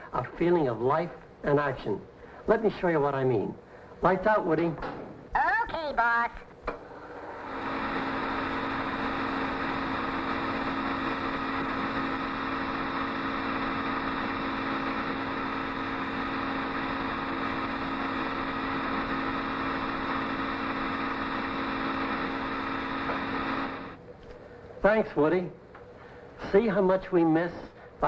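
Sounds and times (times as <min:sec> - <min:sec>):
film projector humming and whirring: 0:00.0 - 0:28.0.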